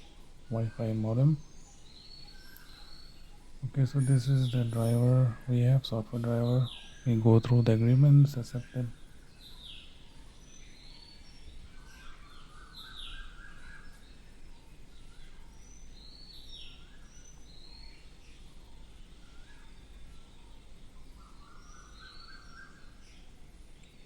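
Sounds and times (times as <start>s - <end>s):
birds chirping: 0.0s - 24.0s
low steady room noise: 0.0s - 24.0s.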